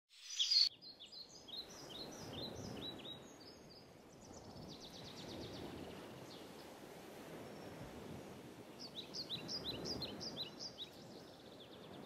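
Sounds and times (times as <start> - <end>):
songbird singing: 0.1 - 6.8, 8.7 - 12.0.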